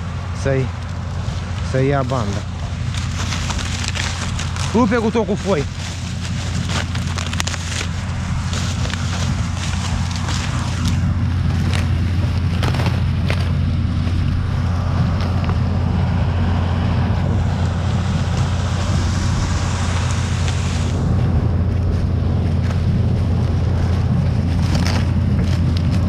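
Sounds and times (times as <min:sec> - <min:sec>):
footsteps crunching on dry stalks: 0:00.0 - 0:26.0
tractor low rumble: 0:00.0 - 0:26.0.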